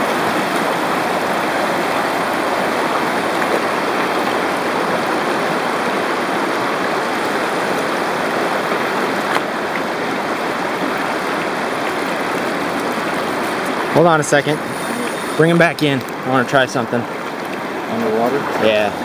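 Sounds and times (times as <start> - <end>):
river rushing over cobbles: 0.0 - 19.0.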